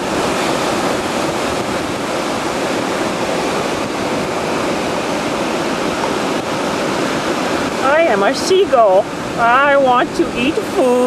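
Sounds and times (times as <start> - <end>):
surf breaking: 0.0 - 11.0
wind buffeting microphone: 0.0 - 11.0.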